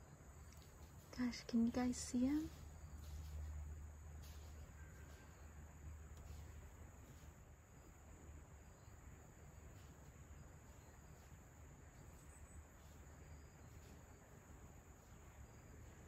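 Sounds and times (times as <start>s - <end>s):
crickets chirping: 0.0s - 16.0s
low background rumble: 0.0s - 16.0s.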